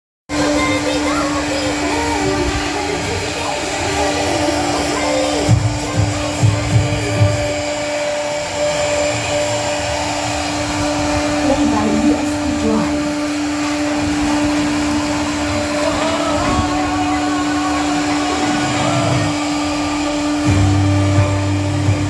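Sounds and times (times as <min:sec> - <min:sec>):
electric motor whining: 0:00.3 - 0:22.0
loud rushing noise: 0:00.3 - 0:22.0.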